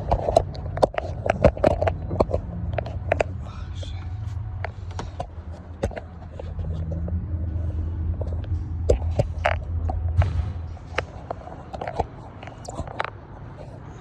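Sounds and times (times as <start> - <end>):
sharp clicks and knocks: 0.0 - 3.4, 4.5 - 13.8
low mechanical rumble: 0.0 - 14.0.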